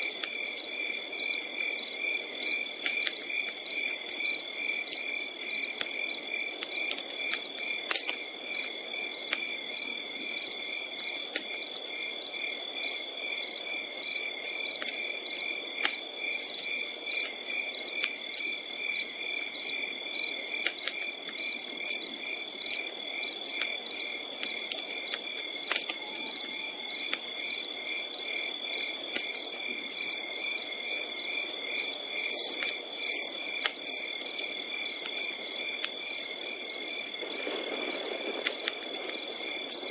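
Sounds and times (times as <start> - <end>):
campfire popping and crackling: 0.0 - 39.9
crickets chirping: 0.0 - 39.9.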